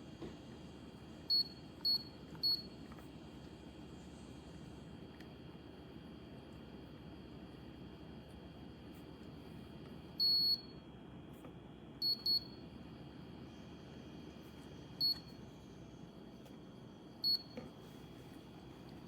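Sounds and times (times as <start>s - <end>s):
humidifier electronic beeps: 0.0s - 19.0s.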